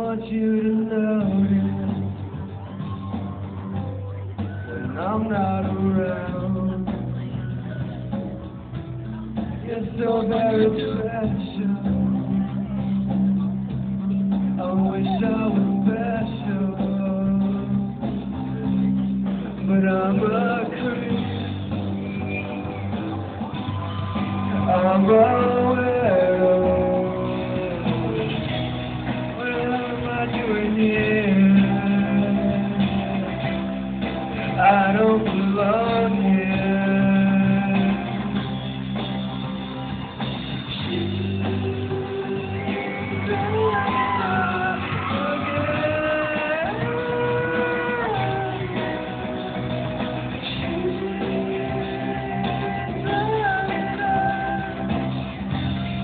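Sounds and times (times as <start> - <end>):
person singing: 0.0 - 8.2, 8.8 - 13.3, 14.5 - 21.8, 22.9 - 39.1, 40.6 - 55.6
drums: 0.0 - 56.0
guitar: 0.0 - 56.0
rock band playing: 0.0 - 56.0.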